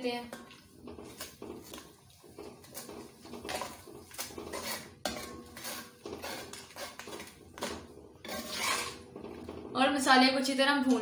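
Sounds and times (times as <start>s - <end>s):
ladle stirring and scraping pot: 0.0s - 10.4s.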